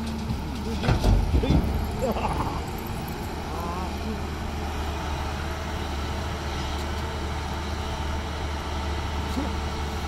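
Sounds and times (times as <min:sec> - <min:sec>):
excavator diesel engine droning: 0:00.0 - 0:10.0.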